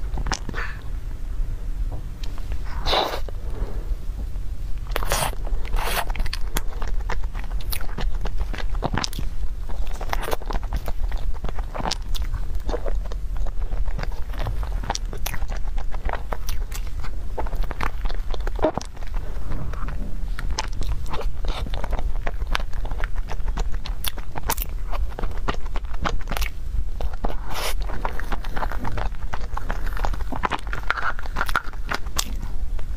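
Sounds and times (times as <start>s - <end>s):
wet chewing mouth noises: 0.0s - 0.8s, 4.8s - 32.9s
steady low hum: 0.0s - 32.9s.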